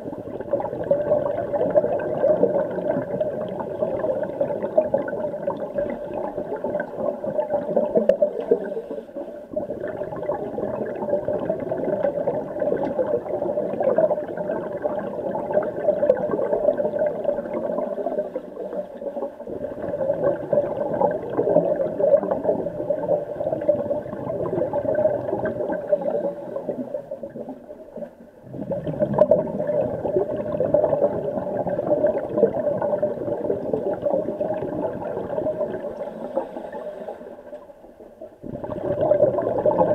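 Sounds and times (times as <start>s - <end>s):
underwater regulator bubbles: 0.0s - 39.9s.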